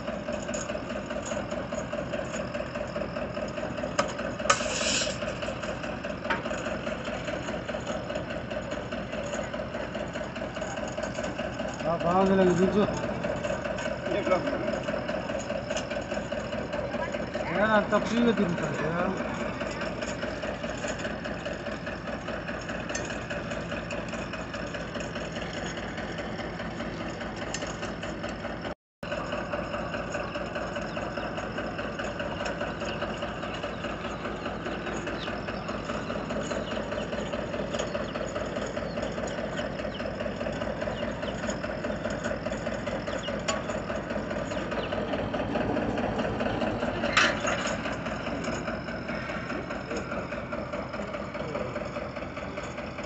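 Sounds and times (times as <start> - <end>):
engine throbbing: 0.0 - 53.0.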